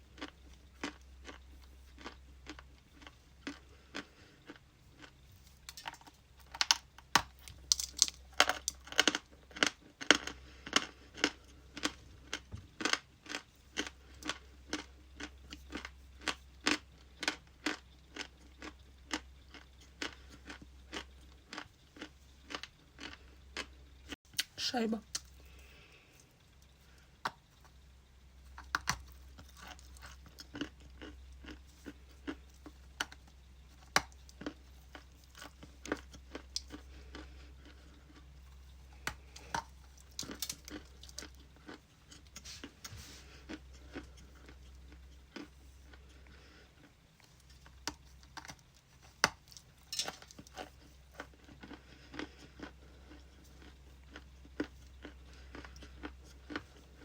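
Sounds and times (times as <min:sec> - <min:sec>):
person crunching food: 0:00.0 - 0:57.0
steady low hum: 0:00.0 - 0:57.0.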